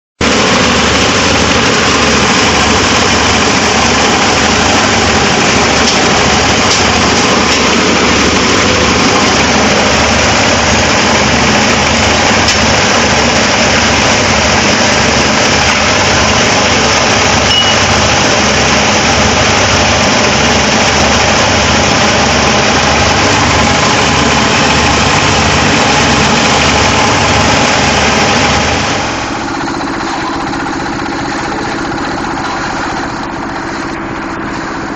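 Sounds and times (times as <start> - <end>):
plastic shredder machine running: 0.2 - 34.9.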